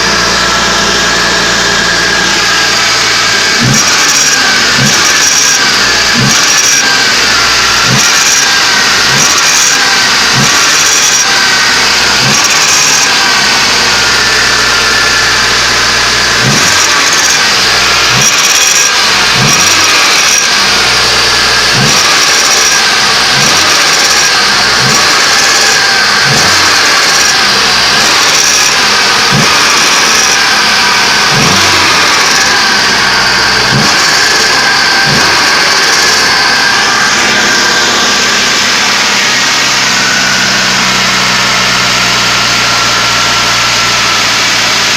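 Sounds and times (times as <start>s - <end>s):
car engine revving in blips: 0.0s - 44.9s.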